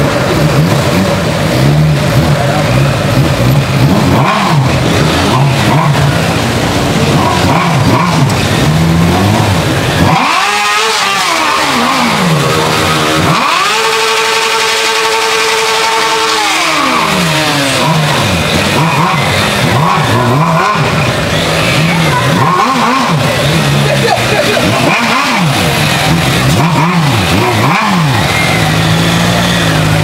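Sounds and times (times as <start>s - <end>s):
motorcycle engine revving hard: 0.0s - 30.0s
motorcycle engines running: 0.0s - 30.0s.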